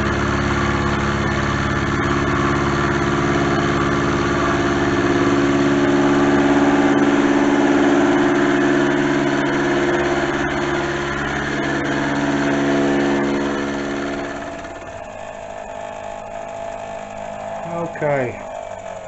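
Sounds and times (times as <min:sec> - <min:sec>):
milling machine cutting steel: 0:00.0 - 0:19.0.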